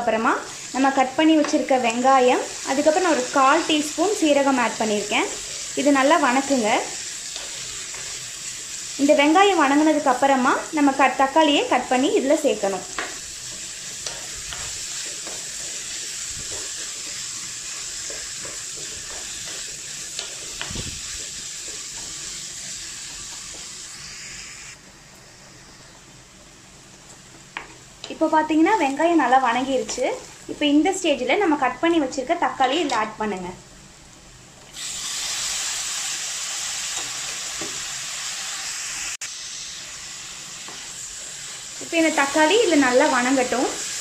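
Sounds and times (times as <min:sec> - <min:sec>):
onions sizzling in hot oil: 0:00.0 - 0:44.0.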